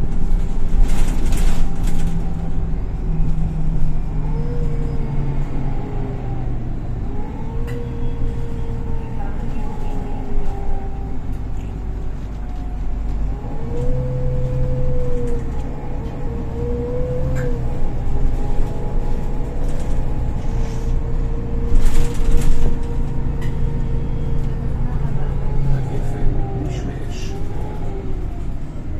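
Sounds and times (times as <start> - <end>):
bus engine drone: 0.0 - 28.9
drivetrain whine: 0.0 - 28.9.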